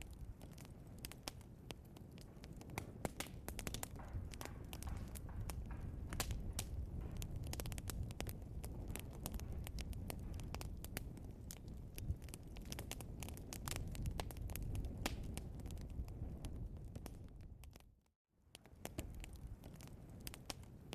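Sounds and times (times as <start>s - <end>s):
fire crackling and popping: 0.0s - 20.9s
wood fire rumbling: 0.0s - 20.9s.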